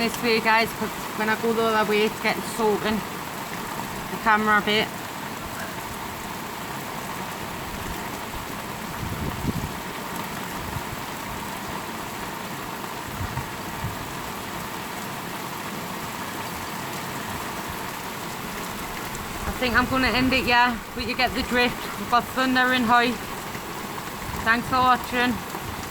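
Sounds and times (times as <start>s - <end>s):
heavy rain hissing: 0.0s - 25.9s.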